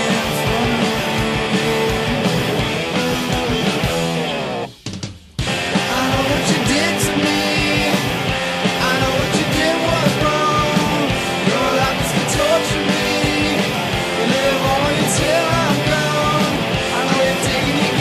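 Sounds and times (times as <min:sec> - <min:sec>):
guitars: 0:00.0 - 0:04.8, 0:05.4 - 0:18.0
rock music: 0:00.0 - 0:18.0
steady drum beat: 0:00.0 - 0:18.0.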